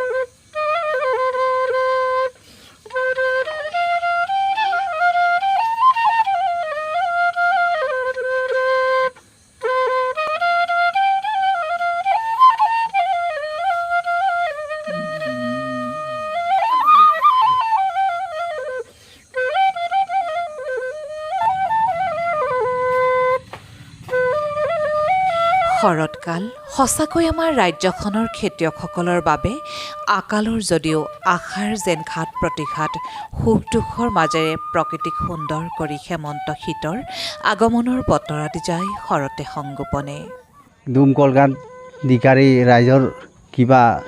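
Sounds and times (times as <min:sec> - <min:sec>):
bamboo flute melody: 0:00.0 - 0:44.0.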